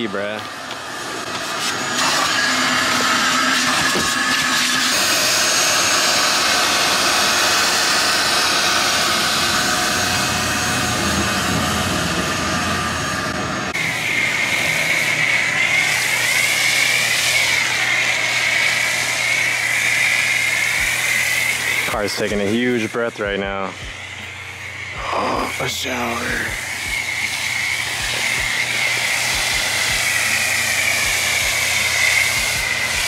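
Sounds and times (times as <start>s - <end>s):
pressure washer low hum: 0.0s - 33.0s
vacuum cleaner running: 0.0s - 33.0s
pressure washer spraying foam: 0.1s - 33.0s.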